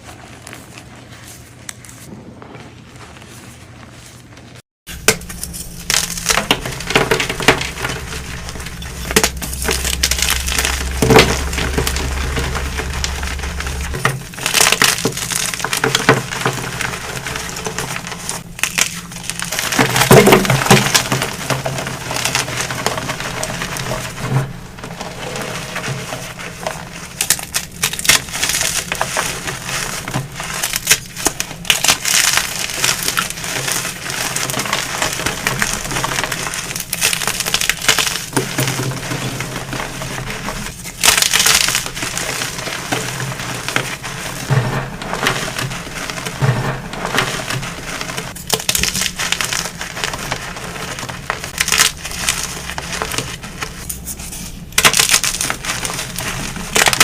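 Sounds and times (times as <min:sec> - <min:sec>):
chalk being crushed: 0:00.0 - 0:57.0
low hum: 0:04.9 - 0:56.8.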